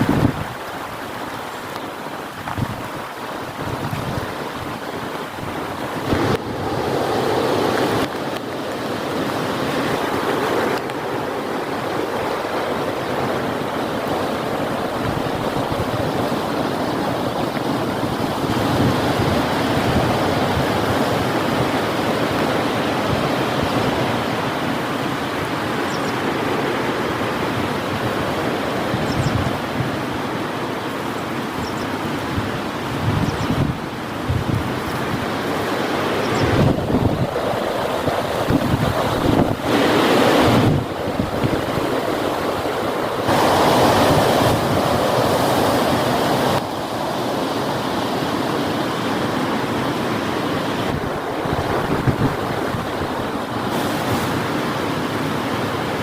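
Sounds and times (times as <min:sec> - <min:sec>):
heavy rain pouring: 0:00.0 - 0:56.0
strong wind: 0:00.0 - 0:56.0.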